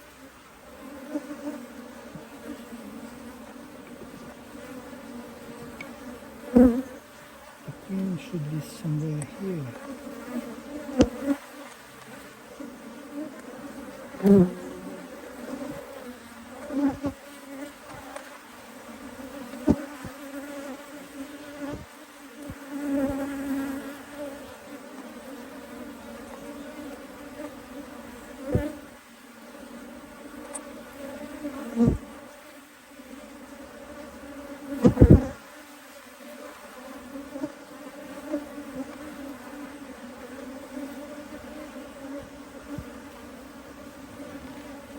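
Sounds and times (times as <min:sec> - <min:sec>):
honeybees buzzing: 0:00.0 - 0:44.9.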